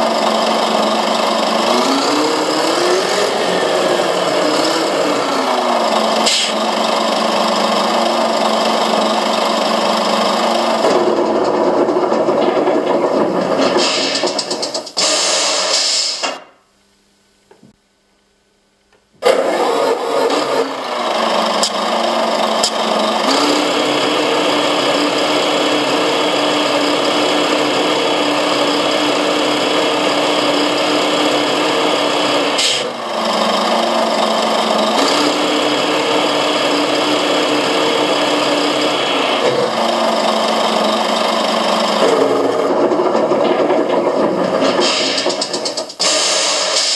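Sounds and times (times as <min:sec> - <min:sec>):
simulated truck engine revving: 0:00.0 - 0:16.1, 0:19.2 - 0:46.9.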